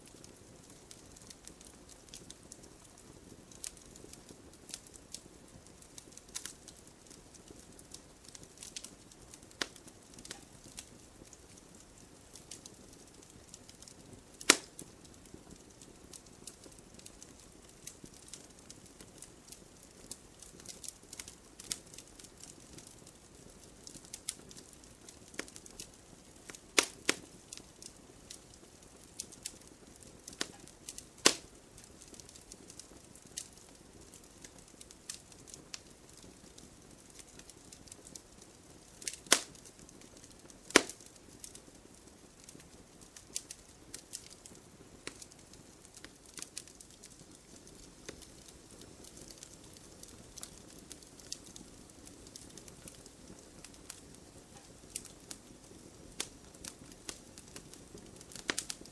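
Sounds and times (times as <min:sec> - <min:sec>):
loud pops from burning wood: 0:00.0 - 0:58.9
wood fire crackling: 0:00.0 - 0:58.9.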